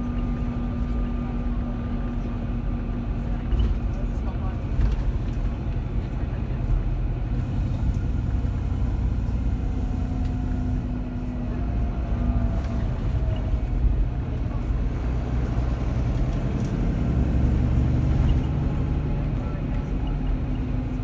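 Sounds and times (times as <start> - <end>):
diesel engine rumble: 0.0 - 21.0
road noise: 0.0 - 21.0.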